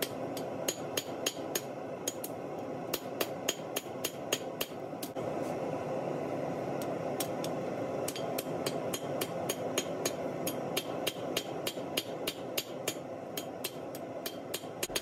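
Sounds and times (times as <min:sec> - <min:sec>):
hammer striking steel on anvil: 0:00.0 - 0:05.1, 0:08.1 - 0:15.0.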